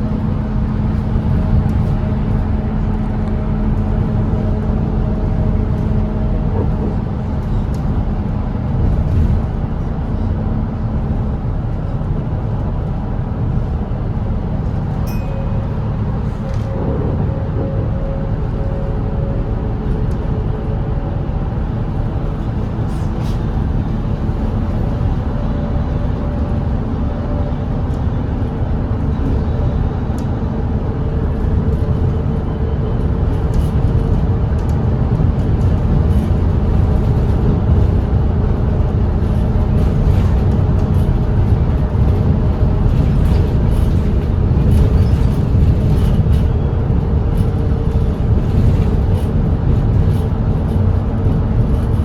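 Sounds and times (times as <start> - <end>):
bus engine droning: 0.0 - 52.0
road rumble: 0.0 - 52.0.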